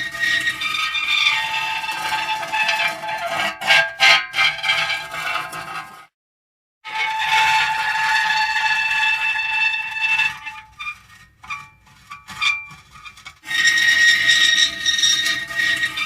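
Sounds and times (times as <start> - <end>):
metal creaking and squealing: 0.0 - 6.0, 6.9 - 16.0.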